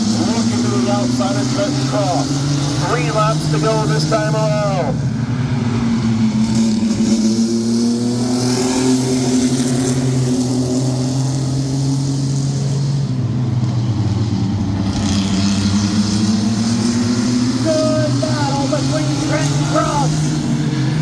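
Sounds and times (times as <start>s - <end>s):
racing truck engines droning: 0.0s - 21.0s.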